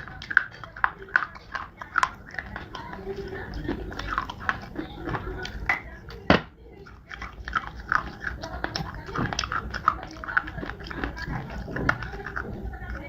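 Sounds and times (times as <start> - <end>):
crunchy biting and chewing: 0.0 - 13.0.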